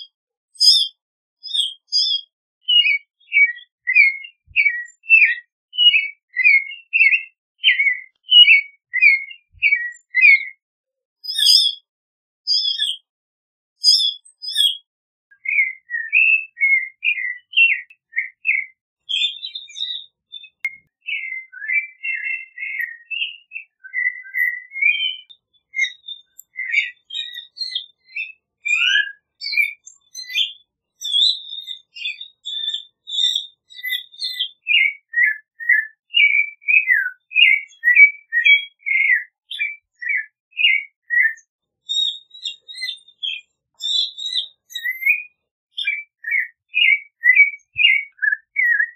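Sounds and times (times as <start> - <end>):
thrush singing whistled notes: 0.6 - 10.6, 13.8 - 48.9.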